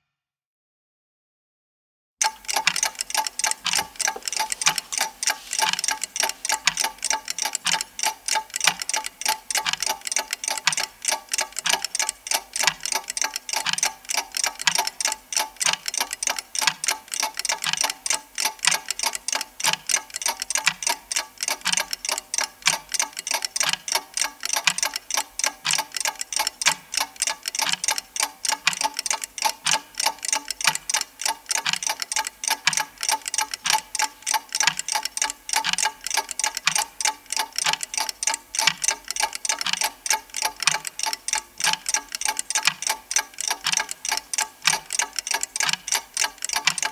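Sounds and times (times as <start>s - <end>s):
clock ticking: 2.2s - 46.9s.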